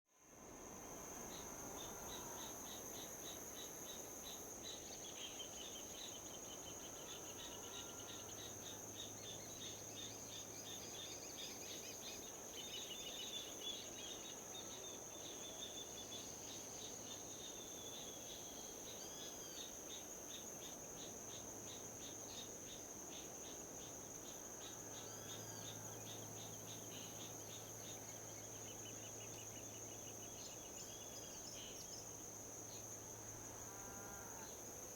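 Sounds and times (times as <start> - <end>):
insects chirping: 0.2 - 34.9.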